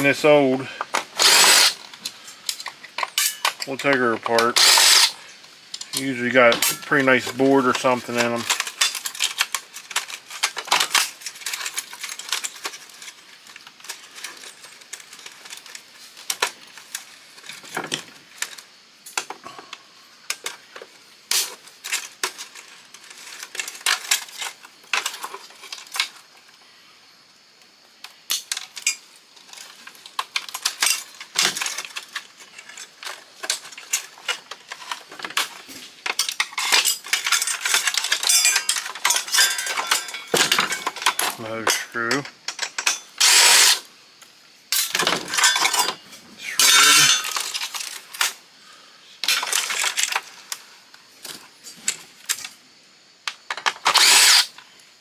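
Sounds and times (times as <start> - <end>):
plastic and metal parts clattering: 0.0 - 19.6, 20.3 - 26.2, 28.3 - 43.9, 44.8 - 48.4, 49.2 - 50.6, 53.3 - 54.6.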